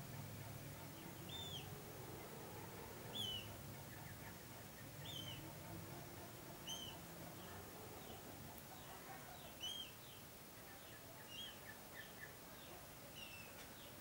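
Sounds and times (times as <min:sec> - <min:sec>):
faint low hum: 0:00.0 - 0:14.0
moorhen chicks peeping: 0:00.0 - 0:14.0.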